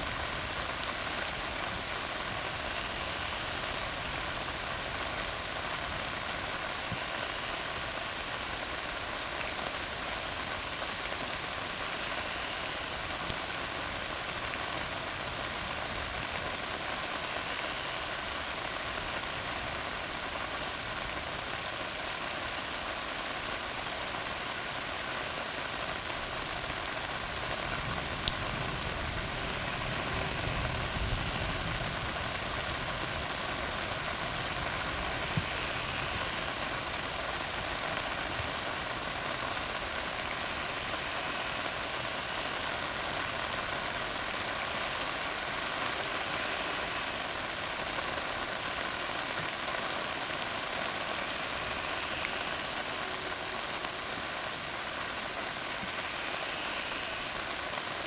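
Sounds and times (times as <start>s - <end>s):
rain falling on road: 0.0s - 58.0s.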